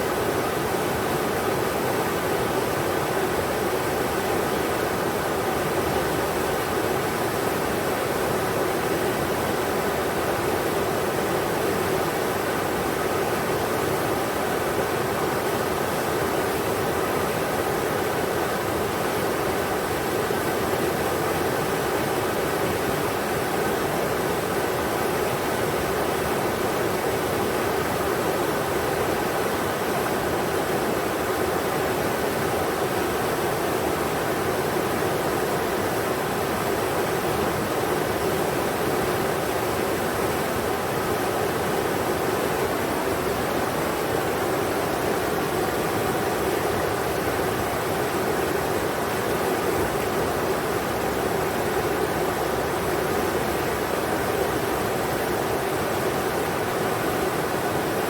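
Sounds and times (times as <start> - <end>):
river flowing over rocks: 0.0 - 58.0.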